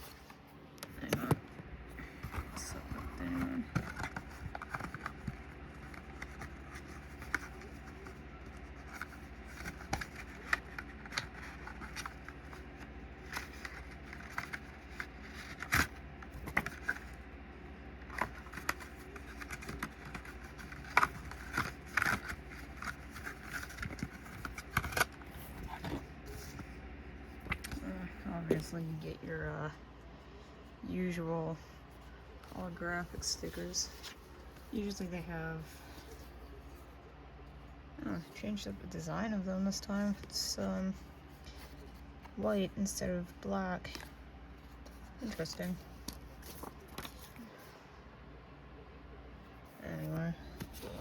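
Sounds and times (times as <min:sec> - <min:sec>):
cardboard and paper rustling: 0:00.0 - 0:17.3, 0:18.0 - 0:30.2, 0:31.0 - 0:37.0, 0:39.7 - 0:47.8, 0:49.7 - 0:51.0
steady low hum: 0:00.0 - 0:51.0.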